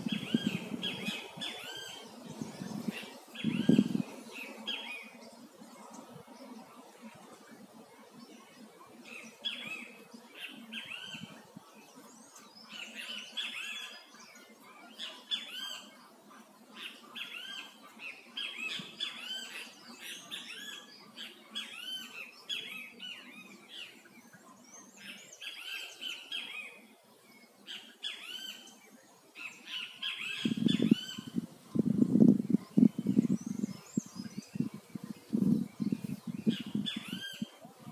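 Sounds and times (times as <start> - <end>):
birds calling and chattering: 0.0 - 37.9.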